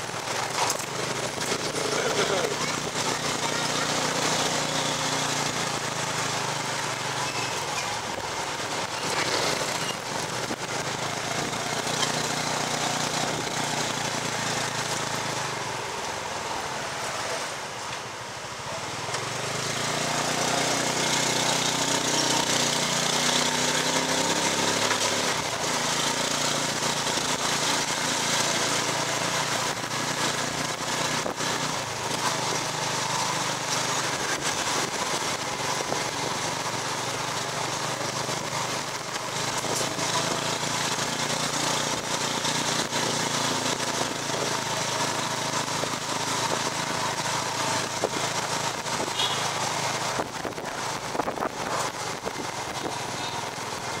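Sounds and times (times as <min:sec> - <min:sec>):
small motorcycle engine: 0:00.0 - 0:16.2, 0:18.7 - 0:54.0
road and wind noise: 0:00.0 - 0:54.0.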